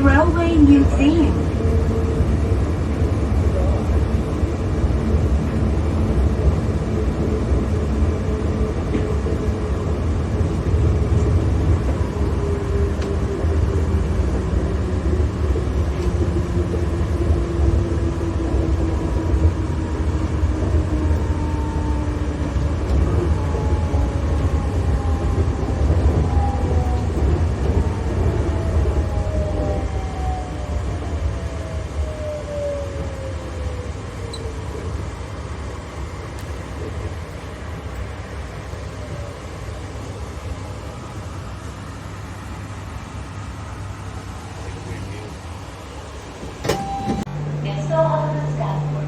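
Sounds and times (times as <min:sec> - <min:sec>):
train running gear rumble: 0:00.0 - 0:49.0.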